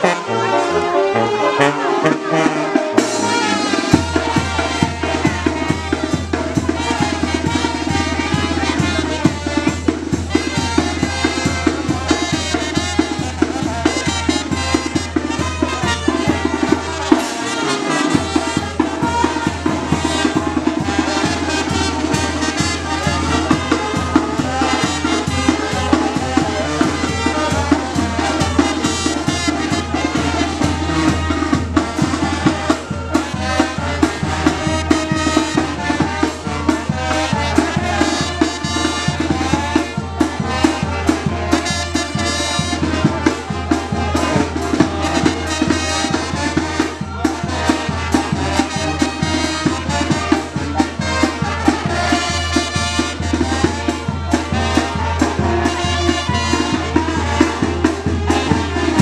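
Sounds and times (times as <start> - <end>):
brass band playing: 0.0 - 59.0
drums and percussion: 0.0 - 59.0.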